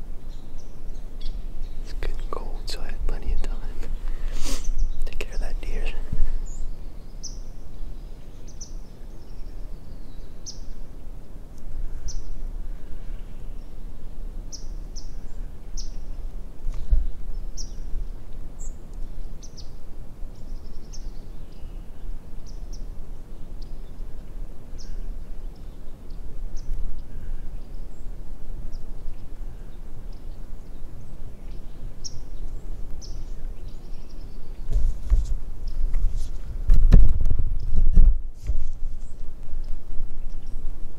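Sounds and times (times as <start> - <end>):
small birds chirping: 0.2 - 36.6, 38.5 - 40.9.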